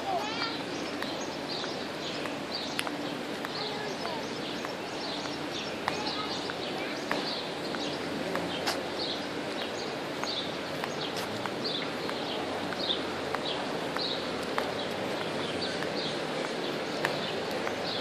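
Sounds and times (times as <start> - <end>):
background noise: 0.0 - 18.0.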